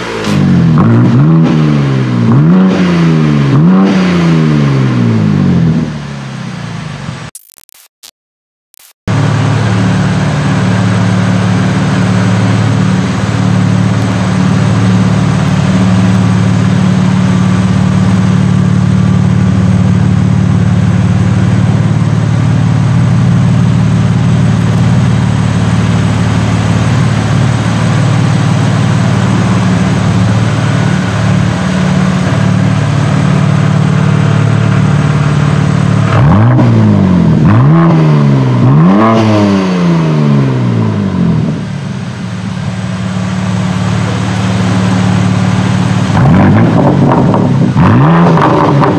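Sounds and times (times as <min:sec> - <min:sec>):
engine revs: 0:00.0 - 0:06.3, 0:09.1 - 0:48.9
car engine running steadily: 0:00.0 - 0:07.3, 0:09.1 - 0:48.9.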